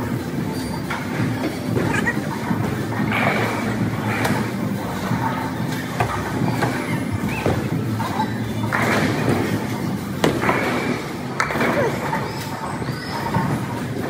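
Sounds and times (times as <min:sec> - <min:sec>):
bowling balls rolling rumble: 0:00.0 - 0:14.0
bowling balls striking pins: 0:00.7 - 0:14.0.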